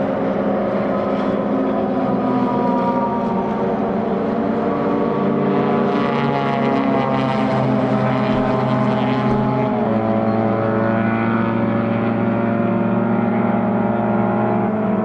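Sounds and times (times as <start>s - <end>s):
racing car engine at high revs: 0.0s - 15.0s.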